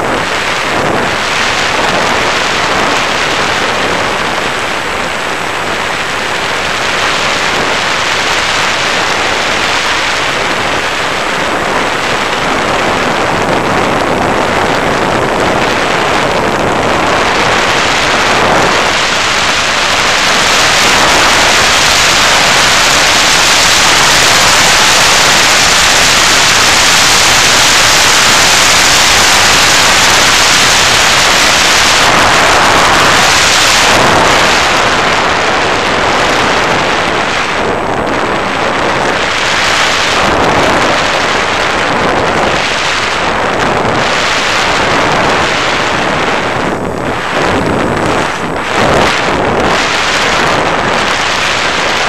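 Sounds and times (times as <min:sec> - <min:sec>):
wind rushing over microphone: 0:00.0 - 0:52.0.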